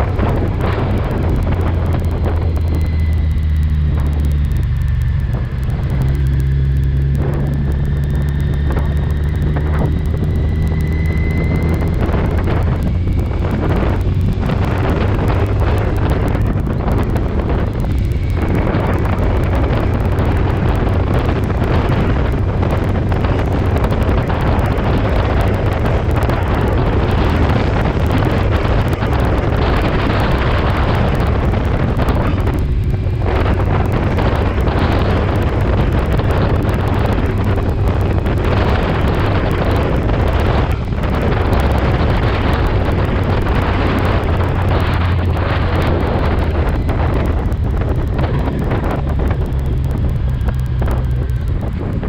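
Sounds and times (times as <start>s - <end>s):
motorcycle engine: 0.0s - 52.0s
wind rushing on microphone: 0.0s - 52.0s.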